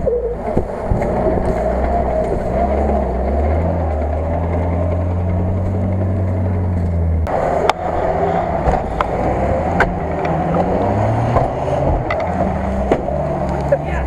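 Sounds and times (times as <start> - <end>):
off-road vehicle engine: 0.0 - 14.0.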